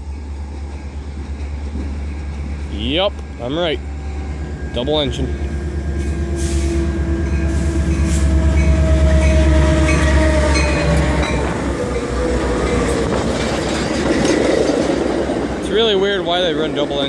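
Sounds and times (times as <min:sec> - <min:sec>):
diesel train engine rumble: 0:00.0 - 0:17.0.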